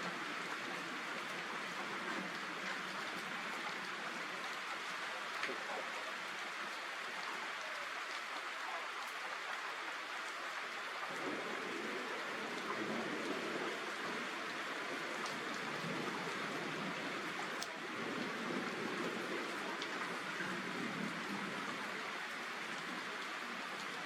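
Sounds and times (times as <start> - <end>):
heavier rain on surfaces: 0.0 - 24.0
steady rain hiss: 0.0 - 24.0.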